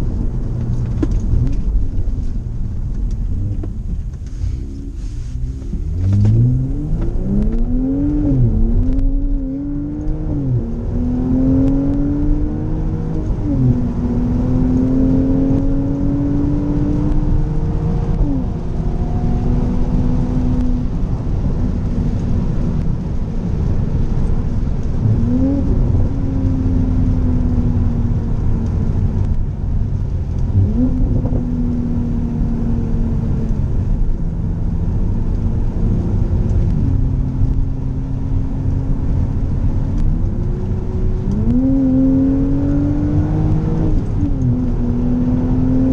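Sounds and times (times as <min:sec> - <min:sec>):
car engine accelerating hard: 0:00.0 - 0:45.9
road and wind noise: 0:00.0 - 0:45.9.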